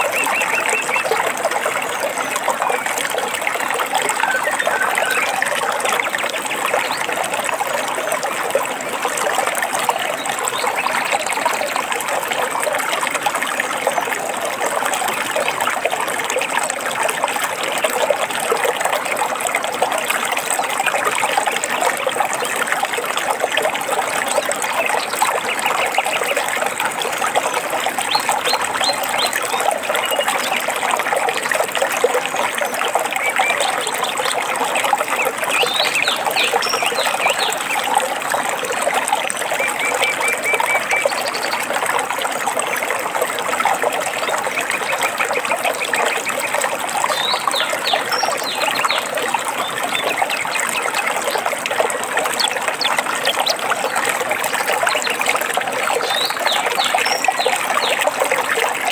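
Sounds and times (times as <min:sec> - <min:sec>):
stream trickling and babbling: 0:00.0 - 0:58.9.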